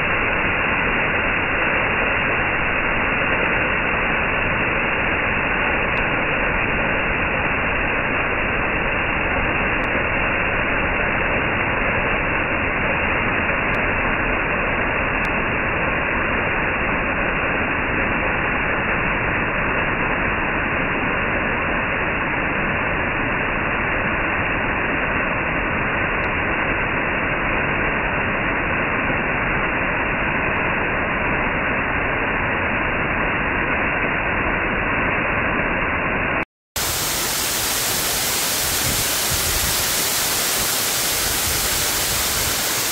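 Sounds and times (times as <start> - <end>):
waterfall splashing into pool: 0.0 - 42.9.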